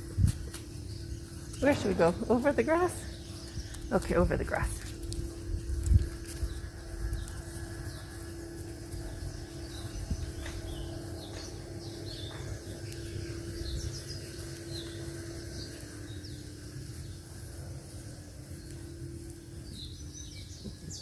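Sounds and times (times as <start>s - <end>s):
low rumble: 0.0s - 20.4s
faint steady hum: 0.0s - 21.0s
small birds chirping: 0.0s - 21.0s.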